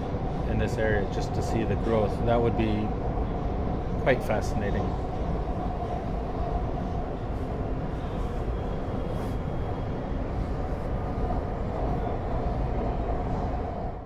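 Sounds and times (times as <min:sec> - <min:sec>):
train rumble: 0:00.0 - 0:14.0
train whine: 0:00.0 - 0:14.0.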